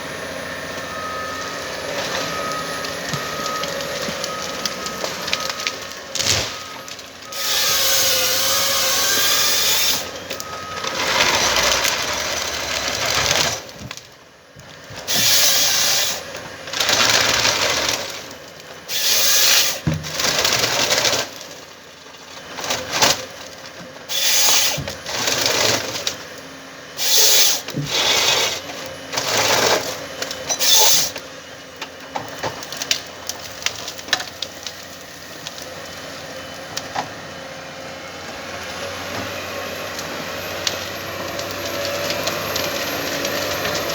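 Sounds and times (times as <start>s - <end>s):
harvester machine running: 0.0s - 43.9s
harvester processing timber bursts: 0.0s - 43.9s.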